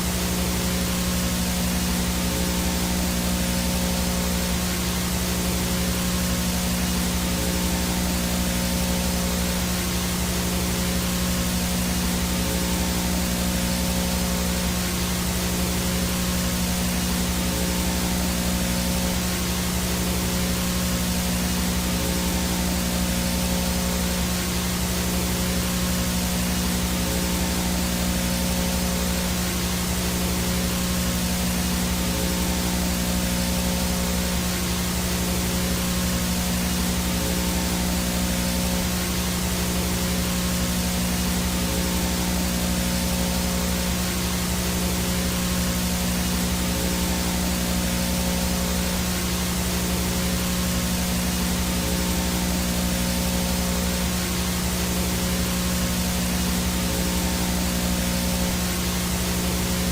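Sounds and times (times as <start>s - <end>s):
faint high whine: 0.0s - 59.9s
low electrical hum: 0.0s - 59.9s
static hiss: 0.0s - 59.9s.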